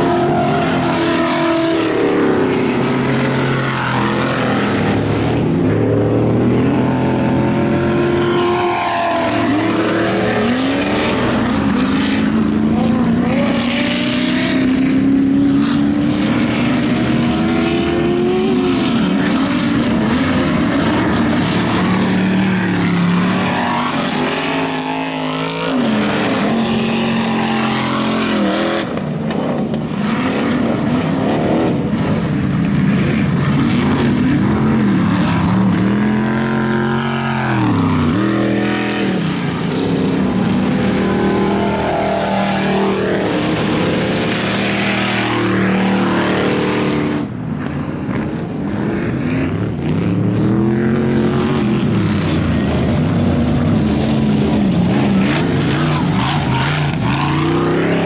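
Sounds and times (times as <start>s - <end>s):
buggy engines revving hard: 0.0s - 58.0s.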